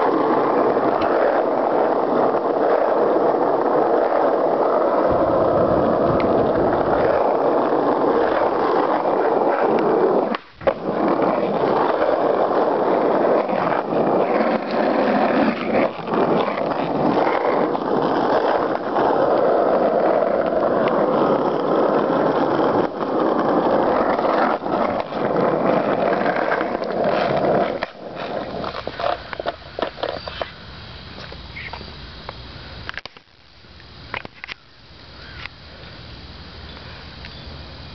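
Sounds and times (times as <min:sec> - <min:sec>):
wheels rolling over asphalt: 0:00.0 - 0:37.9.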